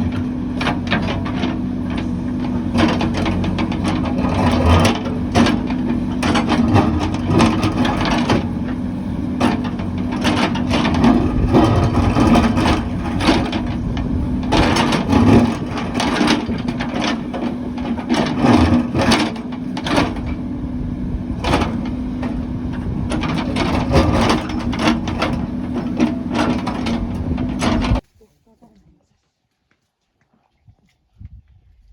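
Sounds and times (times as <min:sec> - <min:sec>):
metal knocks and clanks: 0:00.0 - 0:20.5, 0:21.3 - 0:28.0
diesel machinery engine running: 0:00.0 - 0:28.0.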